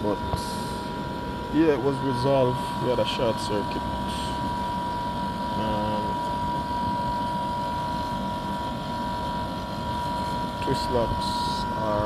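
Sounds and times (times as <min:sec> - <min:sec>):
air conditioner unit running: 0:00.0 - 0:12.0.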